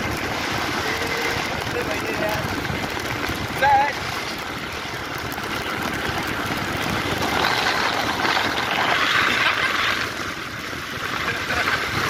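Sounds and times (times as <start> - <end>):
motorbike engine running: 0.0 - 12.0
tyres hissing on wet road: 0.0 - 12.0.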